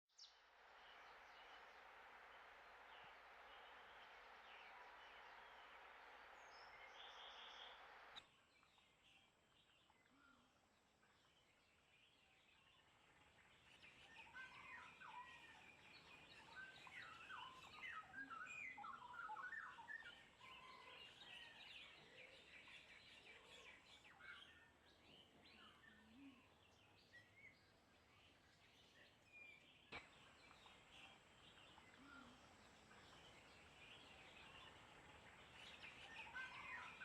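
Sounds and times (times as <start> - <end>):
birds chirping and warbling: 0.2 - 37.0.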